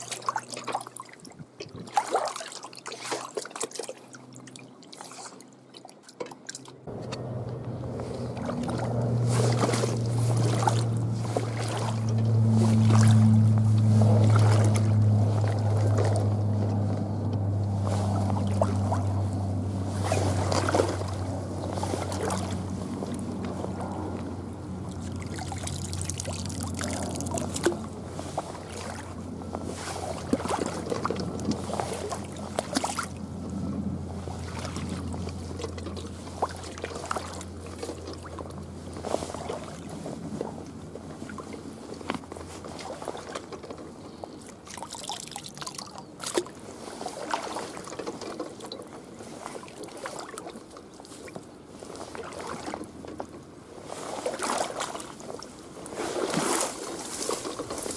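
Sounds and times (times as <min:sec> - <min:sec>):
low steady hum: 0:00.0 - 0:57.9
water sloshing and splashing: 0:00.0 - 0:57.9.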